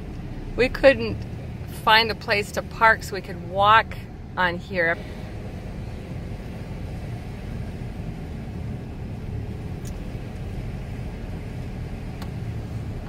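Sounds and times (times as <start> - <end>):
pickup truck engine and road noise: 0.0 - 13.0.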